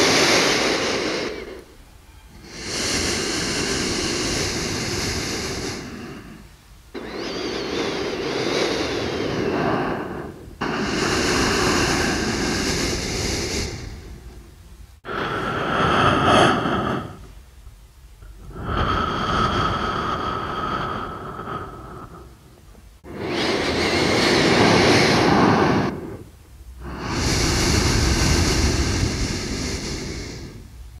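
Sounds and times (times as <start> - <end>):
person breathing through nose: 0.0 - 17.4, 18.2 - 30.8.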